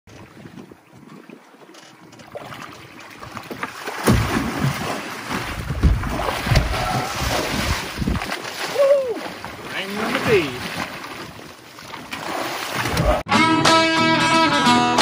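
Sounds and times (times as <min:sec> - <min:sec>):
shark thrashing water splashes: 0:00.1 - 0:13.3.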